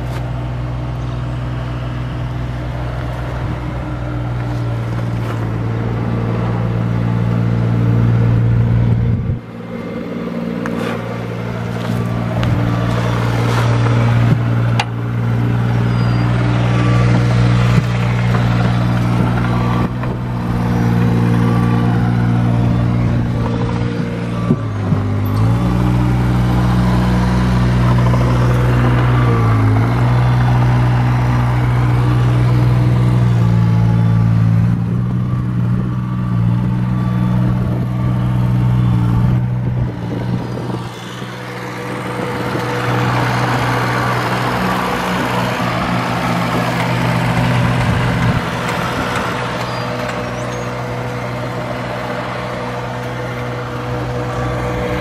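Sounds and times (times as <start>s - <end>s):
skid steer loader engine running: 0.0s - 55.0s.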